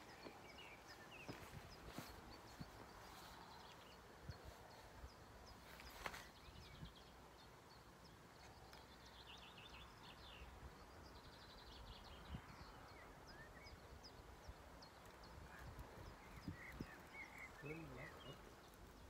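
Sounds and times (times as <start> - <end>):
low wind rumble: 0.0 - 19.0
small birds chirping: 0.0 - 19.0.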